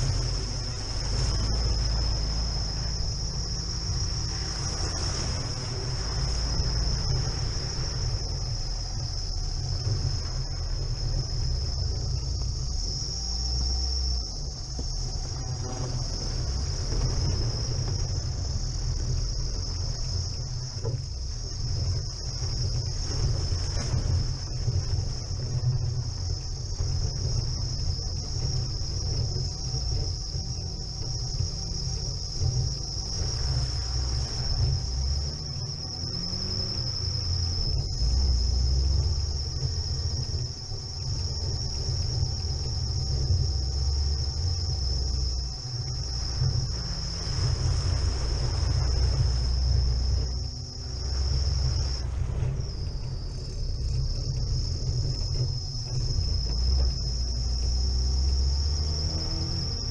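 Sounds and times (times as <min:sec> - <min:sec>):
car engine and road rumble: 0:00.0 - 0:59.9
high-pitched whine: 0:00.0 - 0:59.9.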